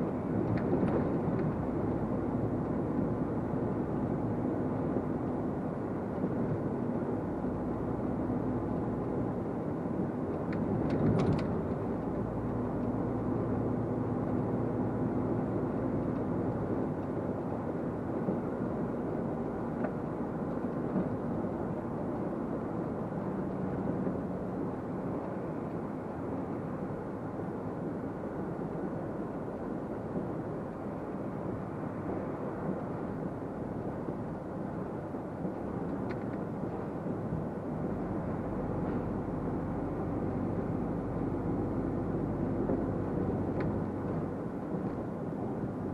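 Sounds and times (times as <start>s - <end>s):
truck engine and road noise: 0.0s - 45.9s.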